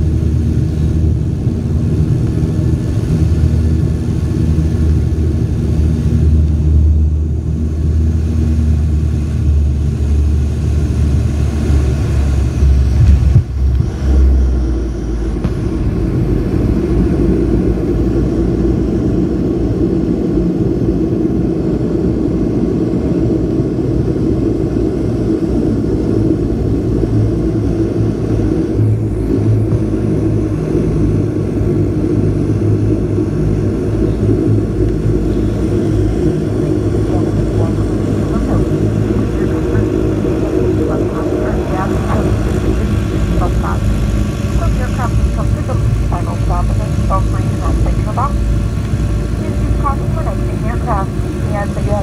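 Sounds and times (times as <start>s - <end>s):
heavy rumble: 0.0s - 52.0s
propeller engines droning: 0.0s - 52.0s.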